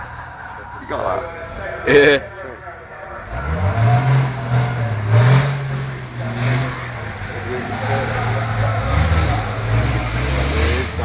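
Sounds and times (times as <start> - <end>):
truck engines running hard: 0.0 - 11.0.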